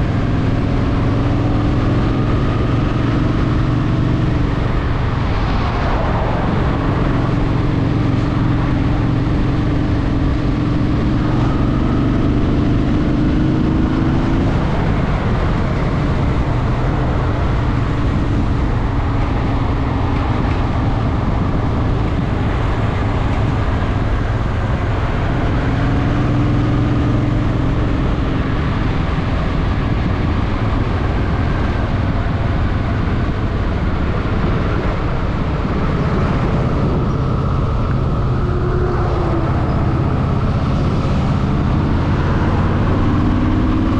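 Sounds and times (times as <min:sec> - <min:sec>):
wind and road noise: 0:00.0 - 0:43.9
motorcycle engine running: 0:06.5 - 0:43.9.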